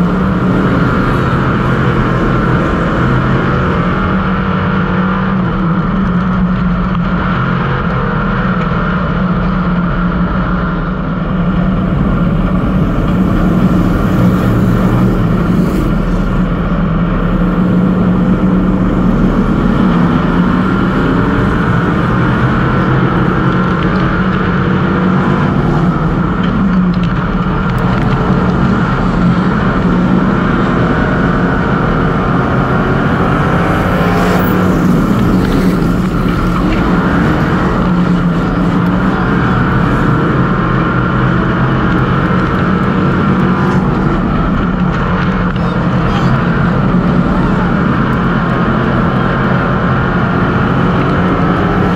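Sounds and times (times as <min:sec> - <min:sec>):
race car engine running hard: 0:00.0 - 0:51.9.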